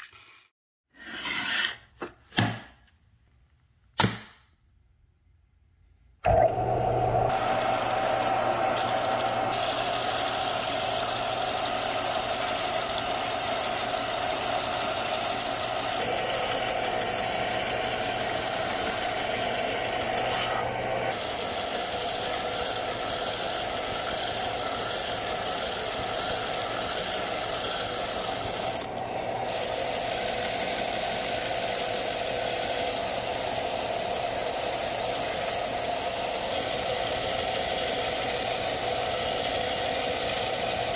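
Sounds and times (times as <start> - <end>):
belt sander running: 6.3 - 40.9.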